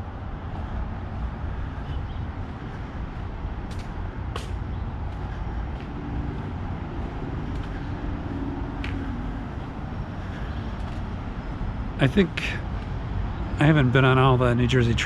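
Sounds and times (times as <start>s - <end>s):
faint engine hum: 0.0s - 15.0s
road traffic rumble: 0.0s - 15.0s.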